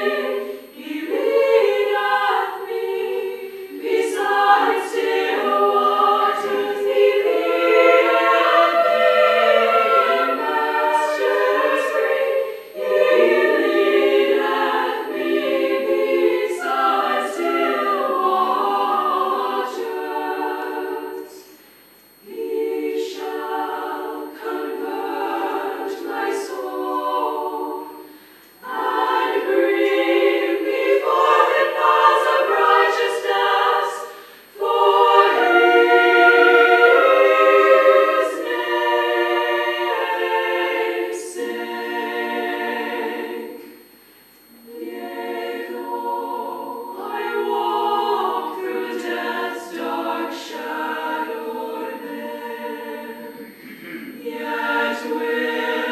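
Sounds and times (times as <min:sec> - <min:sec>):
women's choir singing a cappella: 0:00.0 - 0:55.9.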